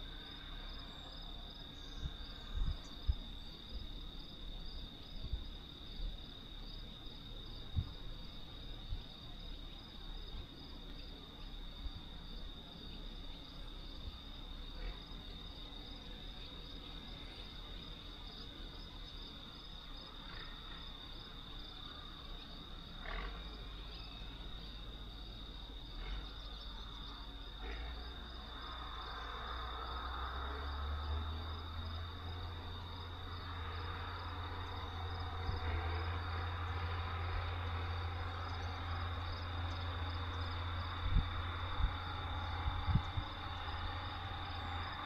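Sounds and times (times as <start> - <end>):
crickets trilling: 0.0 - 45.0.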